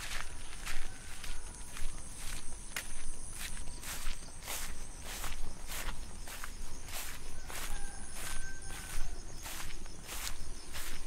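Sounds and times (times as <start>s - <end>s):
footsteps on dirt path: 0.0s - 11.0s.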